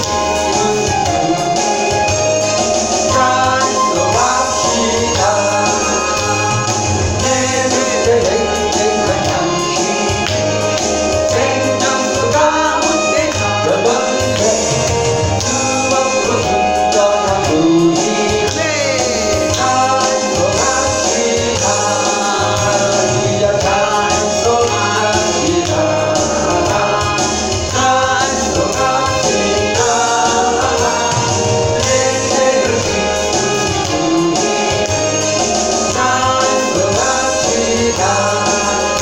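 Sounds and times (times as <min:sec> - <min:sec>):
congregation singing: 0:00.0 - 0:39.0
instrumental accompaniment: 0:00.0 - 0:39.0.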